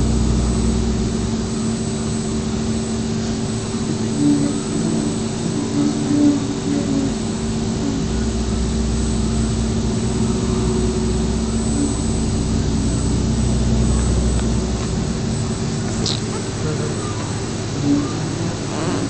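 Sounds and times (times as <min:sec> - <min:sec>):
milling machine running: 0:00.0 - 0:19.0.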